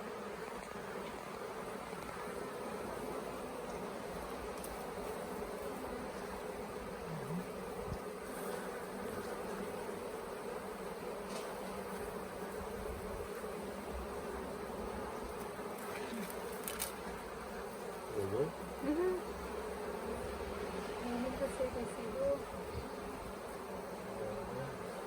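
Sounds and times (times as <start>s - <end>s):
bee swarm buzzing: 0.0s - 25.0s.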